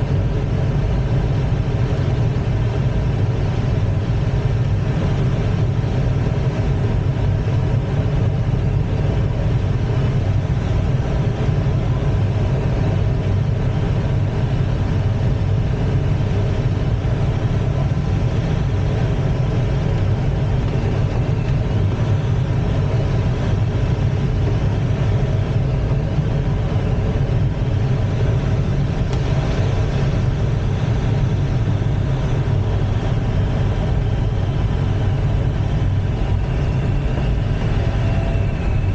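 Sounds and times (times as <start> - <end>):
airflow rumble in glider cockpit: 0.0 - 38.9.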